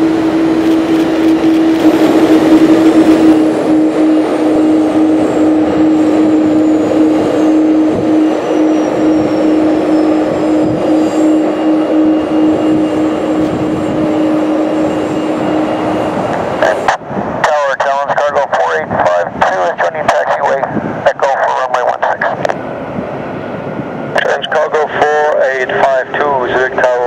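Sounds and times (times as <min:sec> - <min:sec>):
high engine whine: 0:00.0 - 0:27.0
jet engines running: 0:00.0 - 0:27.0
steady hum: 0:00.0 - 0:27.0.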